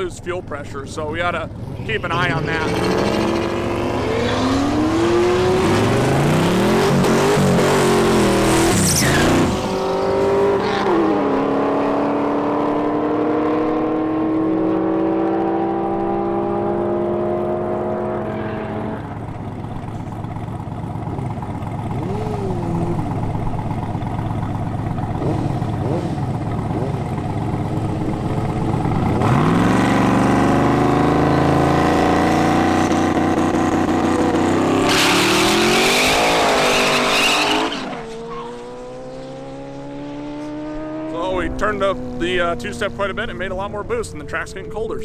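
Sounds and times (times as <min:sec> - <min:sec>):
car engine revving hard: 0:01.8 - 0:19.2, 0:21.1 - 0:23.5, 0:25.1 - 0:43.1.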